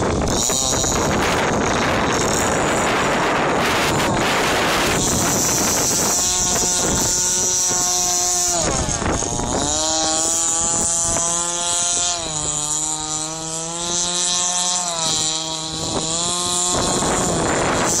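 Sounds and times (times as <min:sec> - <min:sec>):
model boat engine running: 0:00.0 - 0:18.0
wind noise on microphone: 0:00.0 - 0:18.0.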